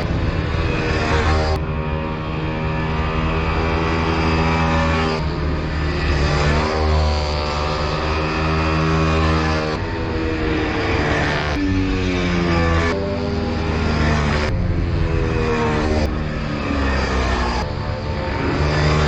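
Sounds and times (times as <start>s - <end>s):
minibike engines at high revs: 0.0s - 19.0s.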